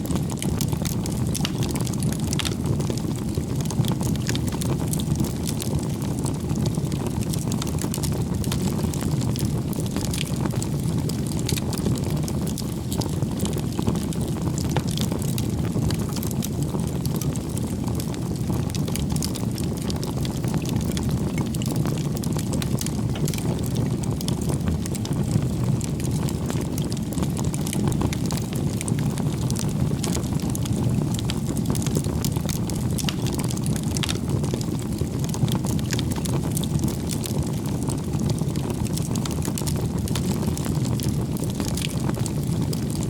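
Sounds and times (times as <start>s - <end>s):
bonfire crackling: 0.0s - 43.0s.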